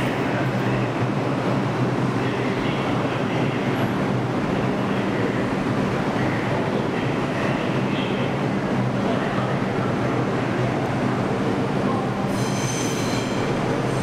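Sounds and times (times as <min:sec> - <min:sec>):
subway train wheels rumbling on rail: 0:00.0 - 0:14.0.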